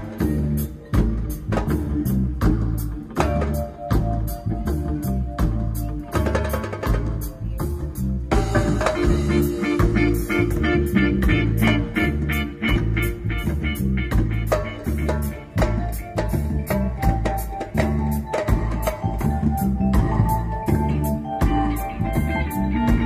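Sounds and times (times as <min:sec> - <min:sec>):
reggae band playing: 0:00.0 - 0:23.0.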